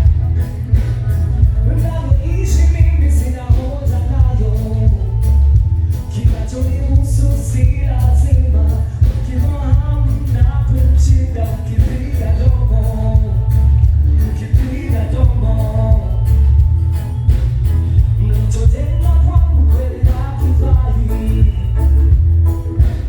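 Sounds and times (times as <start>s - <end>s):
heavy bass beat: 0.0s - 23.0s
music with singing: 0.0s - 23.0s.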